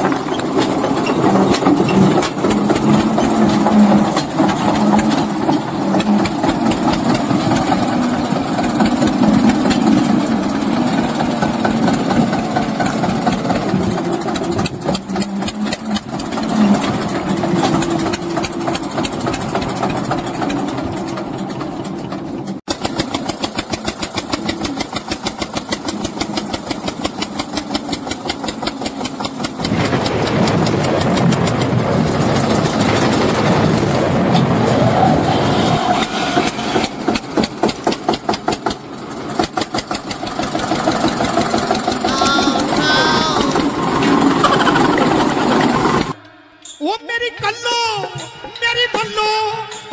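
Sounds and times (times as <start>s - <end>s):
tractor engine chugging: 0.0s - 34.9s, 36.2s - 47.0s.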